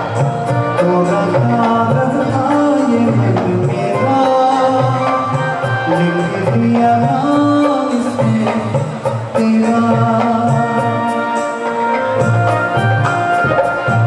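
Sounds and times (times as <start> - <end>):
man singing into microphone: 0.0 - 11.8
instrumental accompaniment with percussion: 0.0 - 14.0.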